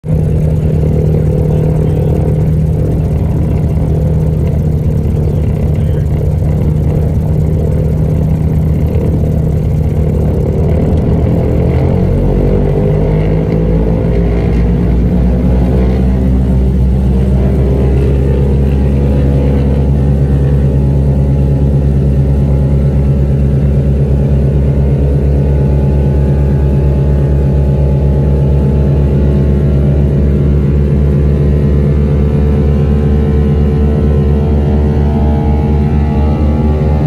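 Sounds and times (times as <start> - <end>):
light airplane engine and propeller: 0.0 - 37.0.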